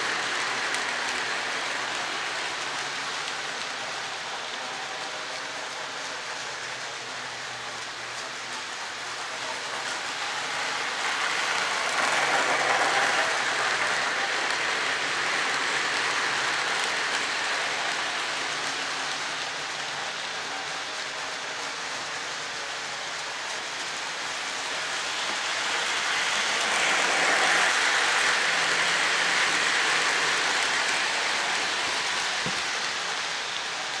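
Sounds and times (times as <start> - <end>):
model train rolling on track: 0.0 - 34.0.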